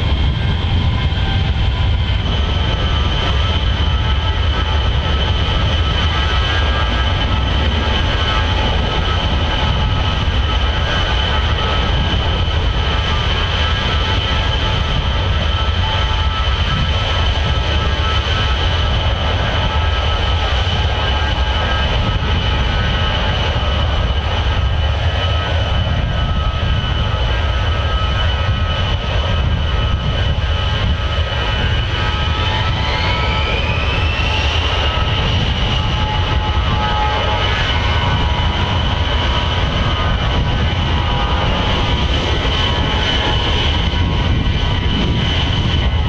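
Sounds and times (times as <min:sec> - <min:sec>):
aircraft engines rumbling: 0:00.0 - 0:46.0.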